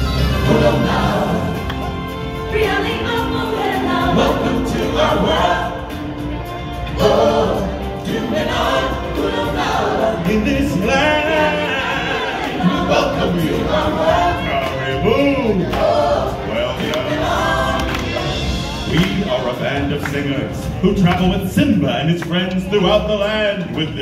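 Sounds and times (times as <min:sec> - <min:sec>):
choir singing over backing music: 0:00.0 - 0:20.6.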